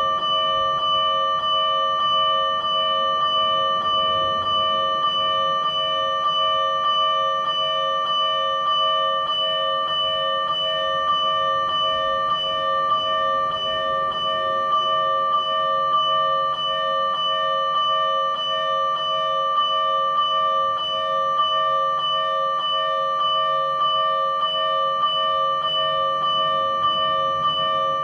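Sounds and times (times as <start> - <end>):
electronic alarm bell strikes: 0.0 - 28.0.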